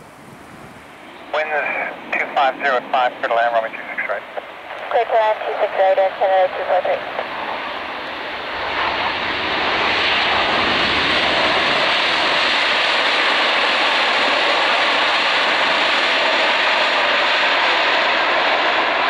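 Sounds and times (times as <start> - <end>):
jet engines roaring in reverse thrust: 0.0 - 19.0.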